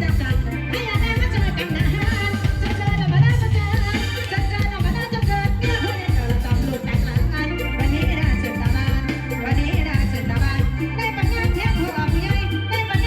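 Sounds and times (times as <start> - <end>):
drum kit beat: 0.0 - 13.0
electronic organ band music: 0.0 - 13.0.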